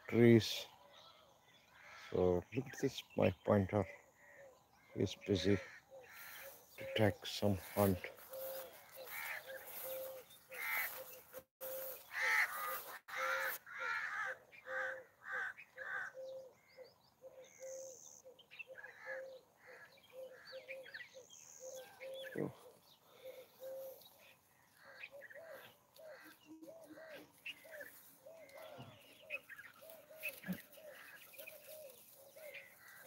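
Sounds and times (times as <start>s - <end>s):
birds calling: 0.0s - 33.0s.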